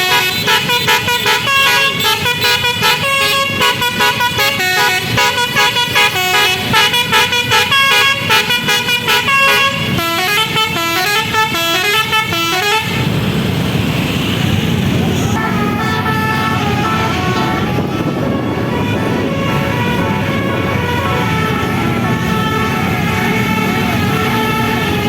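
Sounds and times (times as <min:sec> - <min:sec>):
musical bus horn tune: 0:00.0 - 0:13.1, 0:15.3 - 0:25.0.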